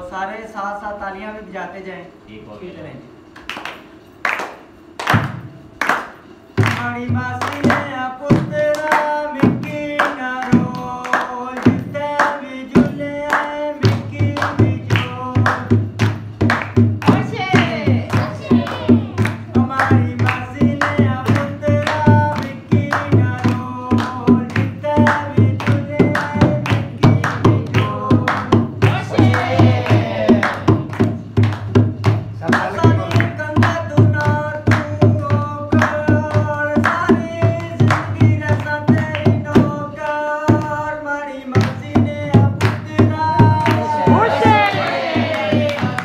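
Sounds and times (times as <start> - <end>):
hand-clapping in time: 3.3 - 46.0.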